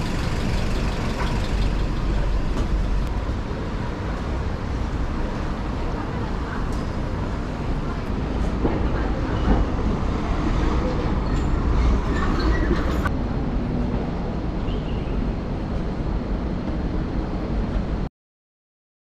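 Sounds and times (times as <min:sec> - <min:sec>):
road traffic rumble: 0:00.0 - 0:18.1.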